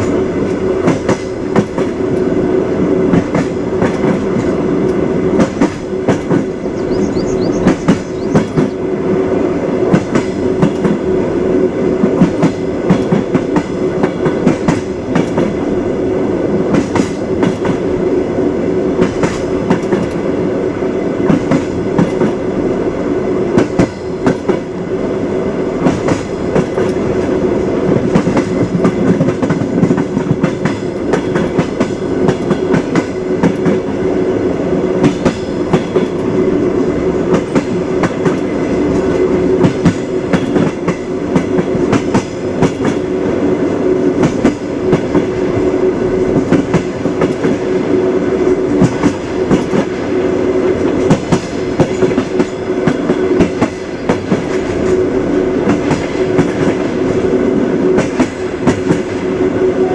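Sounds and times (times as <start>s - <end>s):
train wheels clacking: 0.0s - 15.8s, 16.5s - 18.0s, 18.9s - 20.4s, 21.0s - 22.5s, 23.5s - 24.9s, 25.7s - 59.9s
train rolling rumble: 0.0s - 59.9s.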